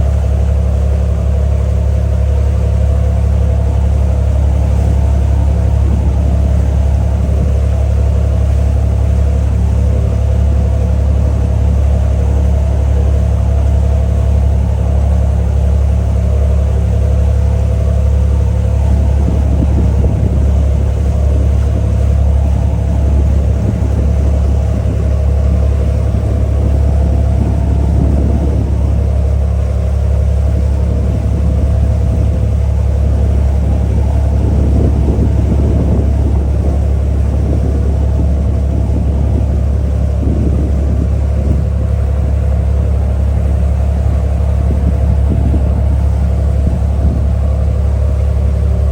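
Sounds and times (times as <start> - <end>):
ferry engine low drone: 0.0 - 48.9
steady hum: 0.0 - 48.9.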